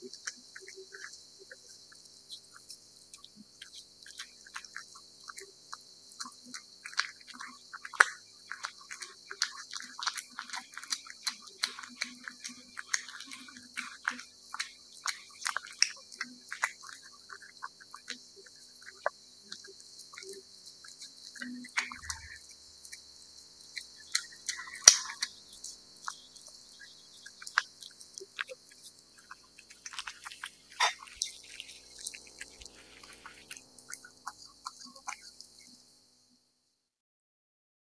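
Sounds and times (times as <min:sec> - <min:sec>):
cat eating wet food: 0:00.0 - 0:35.7.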